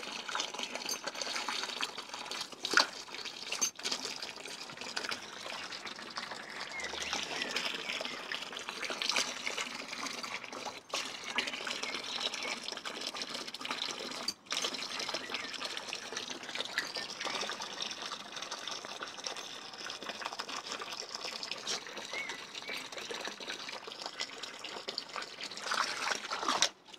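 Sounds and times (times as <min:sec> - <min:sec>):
hose water splashing into pool: 0:00.0 - 0:26.9.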